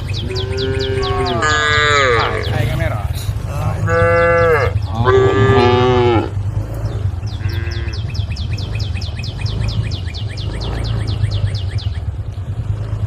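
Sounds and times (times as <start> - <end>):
cows mooing: 0.0 - 13.0
steady low rumble: 0.0 - 13.0.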